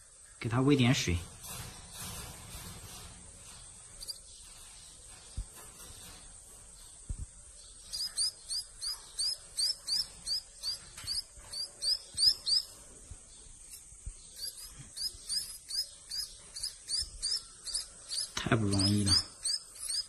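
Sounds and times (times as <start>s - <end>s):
nestling birds begging chirps: 0.0s - 20.0s.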